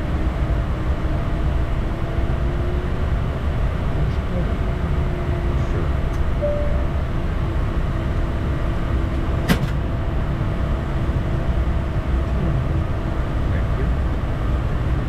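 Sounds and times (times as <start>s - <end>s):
jet cabin airflow and engine rumble: 0.0s - 15.0s.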